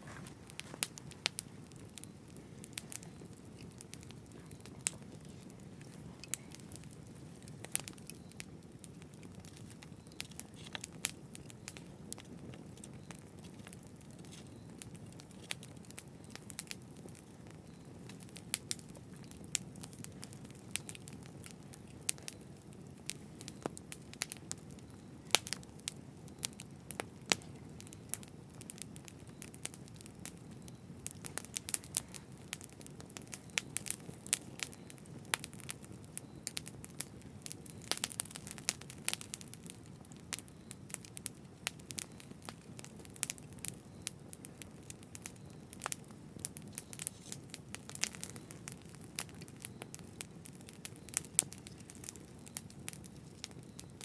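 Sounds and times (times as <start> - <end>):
burning wood crackling and popping: 0.0 - 54.0
low rumble of flames: 0.0 - 54.0.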